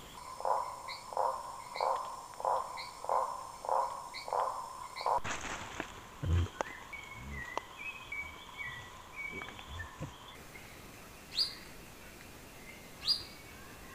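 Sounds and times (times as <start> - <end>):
birds whistling: 0.0 - 5.2, 6.2 - 11.7, 12.6 - 13.8
upward-sweeping bird chirp: 0.0 - 5.2, 6.5 - 13.9.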